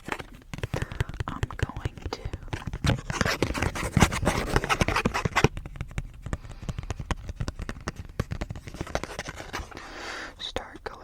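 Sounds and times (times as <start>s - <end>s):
card scratching and clicking: 0.0s - 9.8s.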